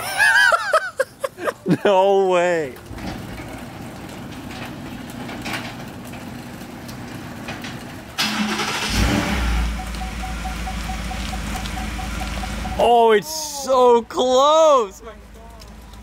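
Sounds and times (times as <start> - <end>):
car engine starting and running: 2.8 - 16.0.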